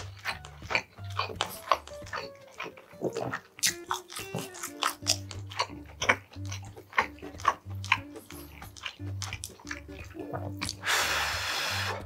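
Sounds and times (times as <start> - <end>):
background music with low bass: 0.0 - 12.0
man chewing with wet smacking: 0.0 - 12.0.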